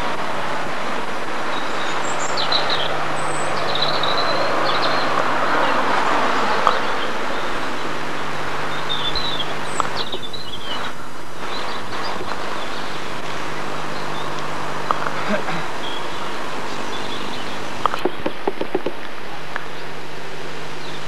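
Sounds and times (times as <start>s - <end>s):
steady rushing noise: 0.0s - 21.0s
small birds chirping: 0.8s - 21.0s.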